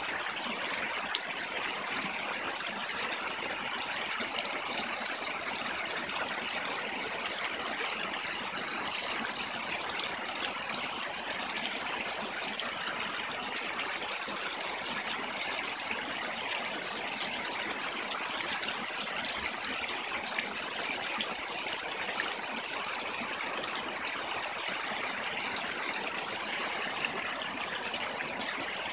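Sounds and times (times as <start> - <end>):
stream rushing over rocks: 0.0 - 28.9.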